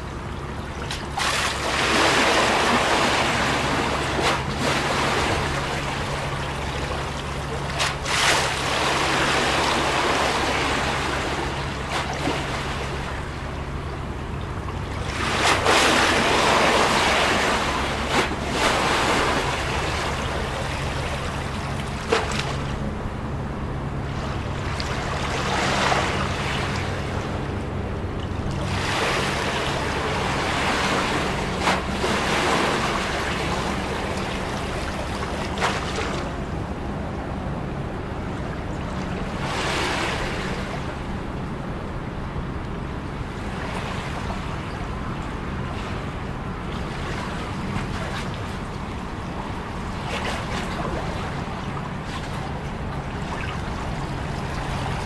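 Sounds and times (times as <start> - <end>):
low steady hum: 0.0 - 55.0
waves lapping against quay wall: 0.0 - 55.0.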